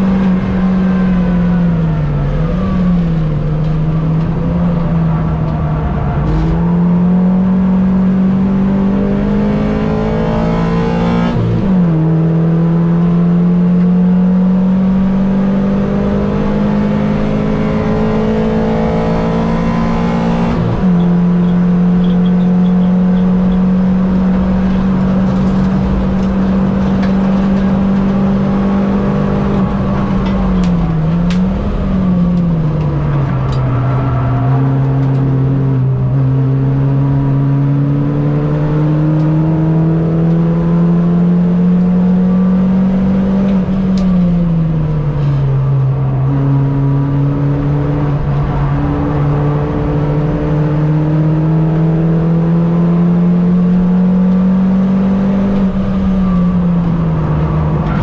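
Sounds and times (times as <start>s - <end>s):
racing car engine revving: 0.0s - 58.0s.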